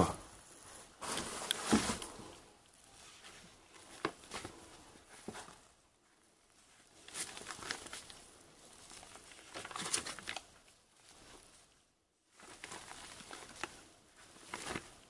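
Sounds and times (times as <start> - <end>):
paper crinkling and rustling: 0.8 - 15.0.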